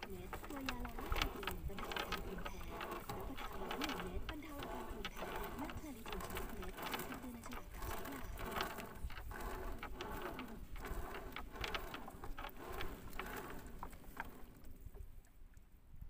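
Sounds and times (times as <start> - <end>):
net clicking and ticking: 0.0 - 15.0
rustling net: 0.0 - 15.1.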